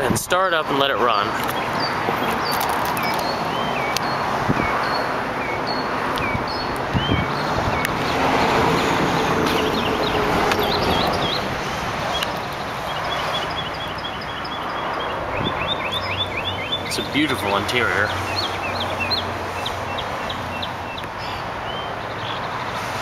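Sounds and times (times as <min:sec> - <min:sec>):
songbird singing: 0:01.1 - 0:22.9.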